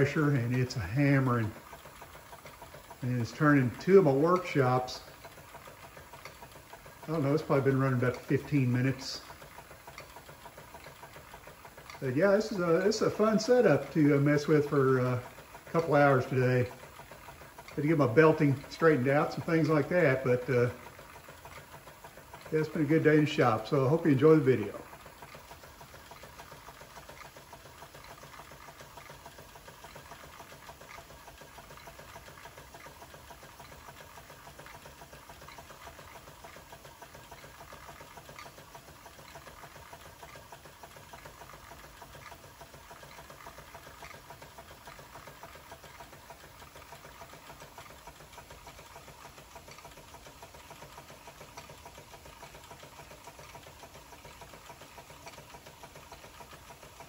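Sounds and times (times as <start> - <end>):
miniature workshop machines clattering: 0.0 - 57.0
toy steam engine running: 0.0 - 57.0.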